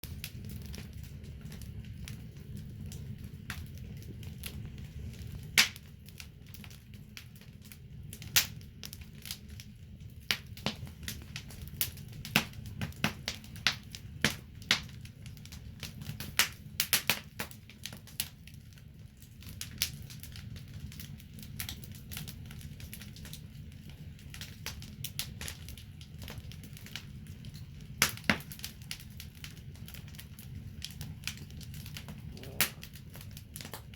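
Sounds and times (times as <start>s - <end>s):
low rumble of flames: 0.0s - 33.9s
wood fire crackling: 0.0s - 33.9s.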